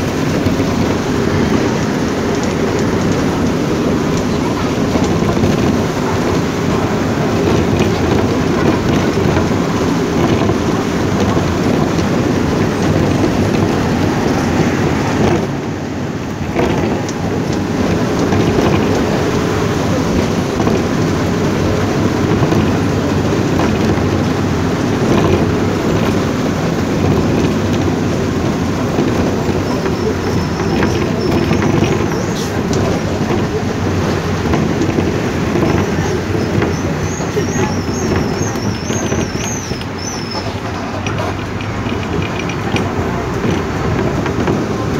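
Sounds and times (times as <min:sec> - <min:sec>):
rain beating on windows: 0:00.0 - 0:44.9
vehicle engine and road noise: 0:00.0 - 0:44.9.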